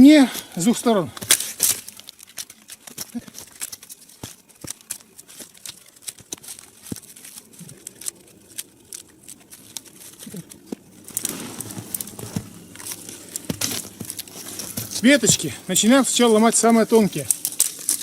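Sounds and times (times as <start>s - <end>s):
dry wood crackling and snapping: 0.3s - 18.0s.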